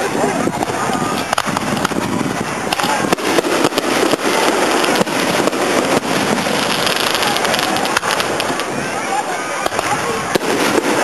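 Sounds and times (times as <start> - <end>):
firework crackle: 0.0 - 11.0
firework shells bursting: 0.6 - 8.7, 9.6 - 11.0.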